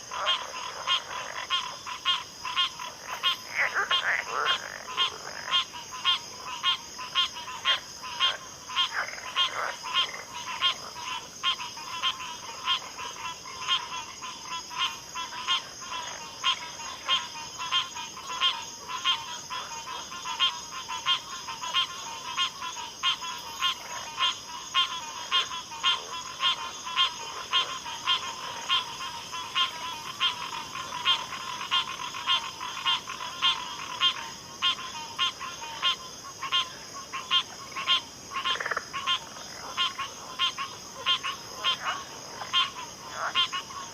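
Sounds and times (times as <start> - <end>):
frogs calling: 0.0 - 43.9
low frog croaks: 0.0 - 43.9.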